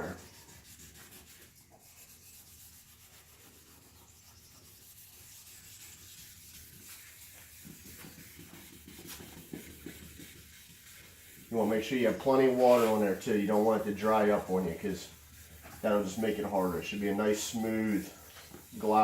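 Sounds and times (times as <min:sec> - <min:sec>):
wet sandpaper rubbing plastic: 0:00.0 - 0:19.0.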